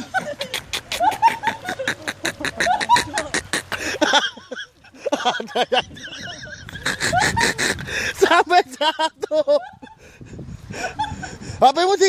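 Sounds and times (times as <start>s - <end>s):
people laughing excitedly: 0.0s - 11.6s.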